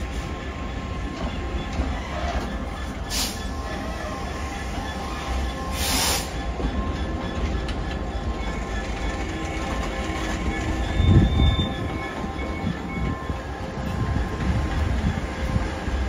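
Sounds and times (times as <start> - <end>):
diesel locomotive rumble: 0.0 - 16.0.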